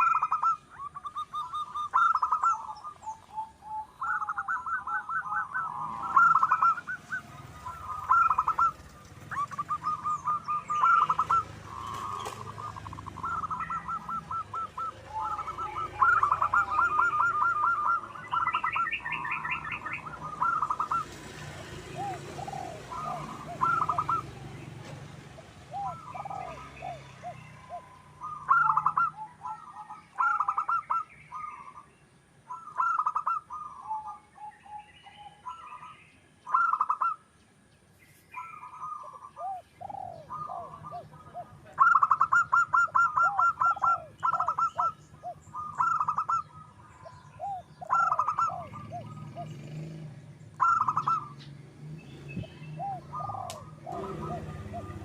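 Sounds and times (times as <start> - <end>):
doves cooing: 0.0 - 37.4, 38.3 - 55.0
small birds chirping: 0.0 - 55.0.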